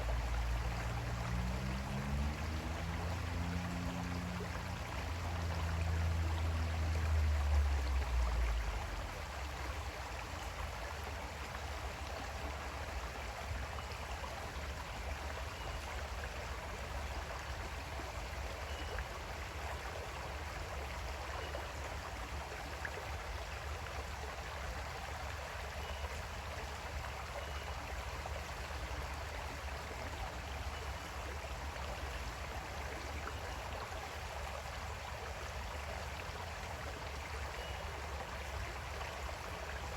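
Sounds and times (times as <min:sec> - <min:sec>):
creek water flowing: 0:00.0 - 0:39.9.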